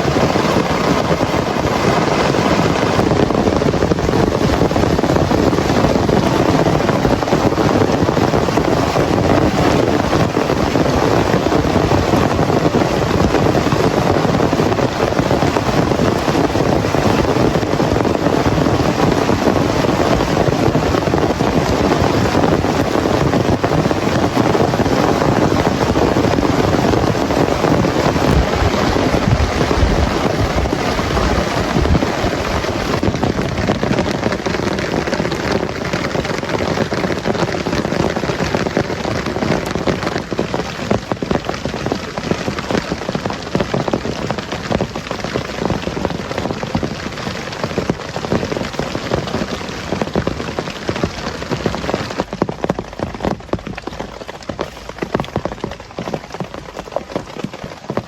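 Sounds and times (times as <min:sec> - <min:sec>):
low rumbles: 0:00.0 - 0:57.4
heavy rain falling: 0:00.0 - 0:58.0.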